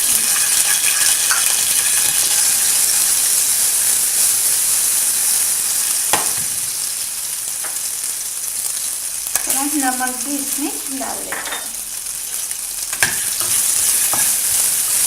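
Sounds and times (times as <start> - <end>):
chillies sizzling in hot oil: 0.0 - 15.0.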